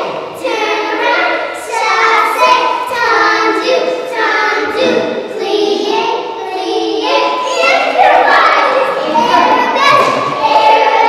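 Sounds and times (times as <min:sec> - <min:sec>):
girls singing together: 0:00.0 - 0:11.0.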